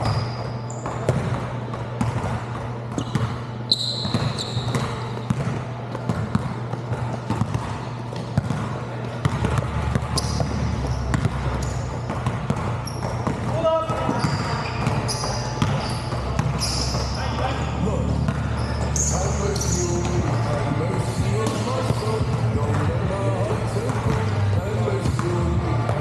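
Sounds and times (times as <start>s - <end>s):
basketballs bouncing on tiled floor: 0.0s - 17.5s, 21.4s - 26.0s
sneaker squeaks: 0.0s - 22.8s
steady low hum: 0.0s - 26.0s.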